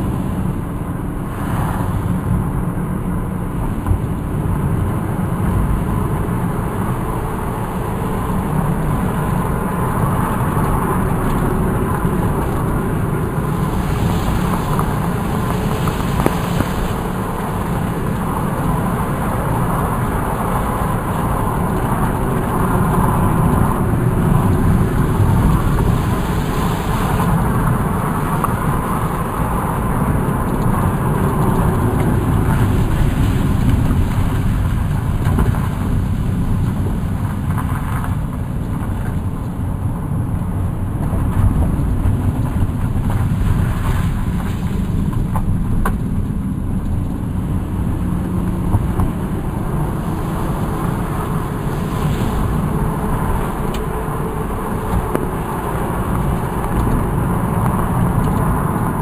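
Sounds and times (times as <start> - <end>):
car interior road rumble: 0.0 - 59.0.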